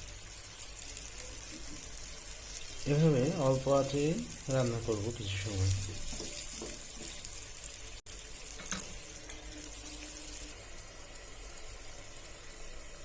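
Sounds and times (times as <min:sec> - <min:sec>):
curry simmering and sizzling in a pan: 0:00.0 - 0:13.0.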